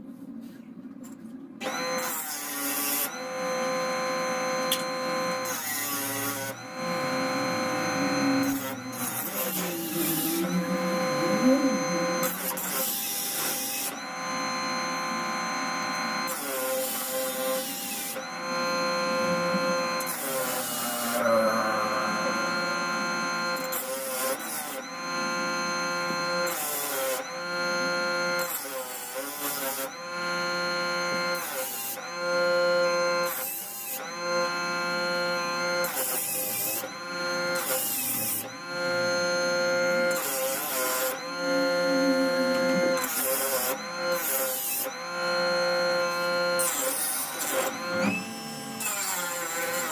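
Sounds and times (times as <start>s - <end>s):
disc sander whining: 1.6s - 49.9s.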